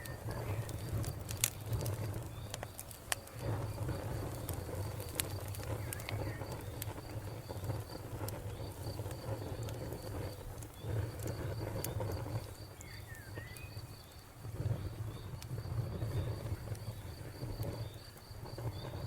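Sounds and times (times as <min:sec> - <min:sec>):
cricket chirping: 0:00.0 - 0:19.0
wood fire crackling: 0:00.0 - 0:19.0.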